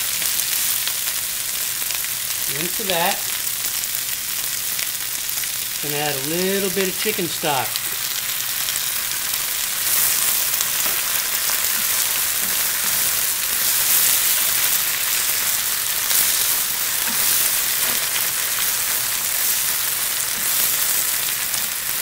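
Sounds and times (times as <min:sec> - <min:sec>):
leaves sizzling in oil: 0:00.0 - 0:22.0.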